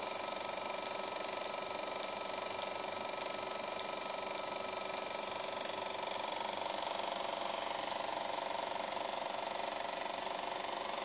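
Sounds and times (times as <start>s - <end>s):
film projector clattering: 0.0s - 11.0s.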